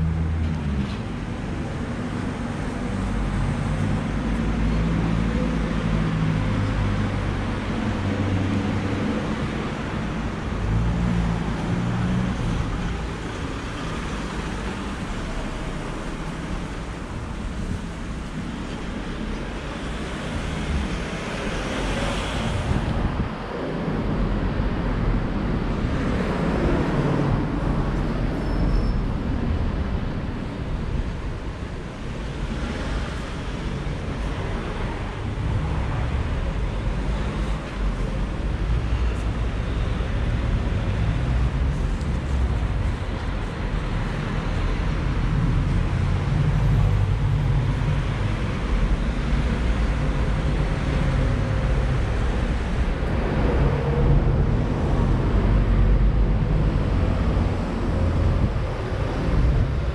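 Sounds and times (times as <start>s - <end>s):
cars passing: 0.0s - 59.9s
low traffic rumble: 0.0s - 59.9s.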